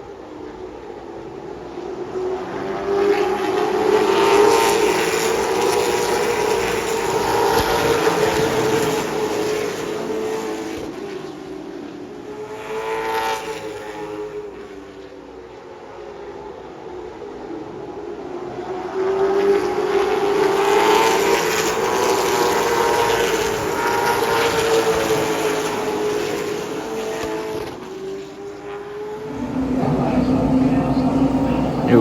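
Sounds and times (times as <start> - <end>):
race car engines roaring: 0.0 - 32.0.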